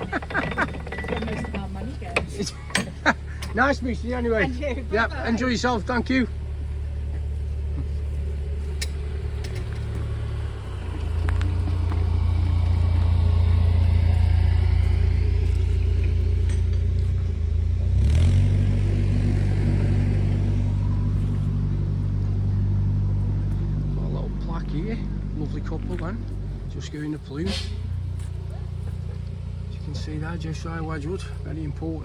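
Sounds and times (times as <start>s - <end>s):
diesel engine humming: 0.0s - 32.0s.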